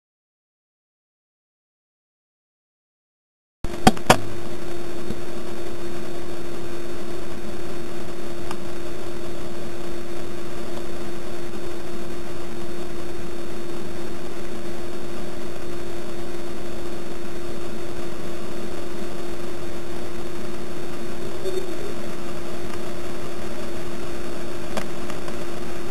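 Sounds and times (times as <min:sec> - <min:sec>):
faint even hum: 0:03.7 - 0:25.9.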